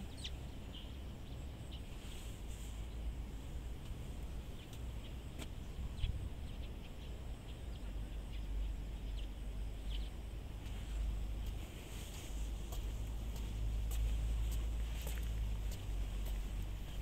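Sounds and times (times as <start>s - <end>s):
small birds chirping faintly: 0.0s - 17.0s
steady low rumble: 0.0s - 17.0s.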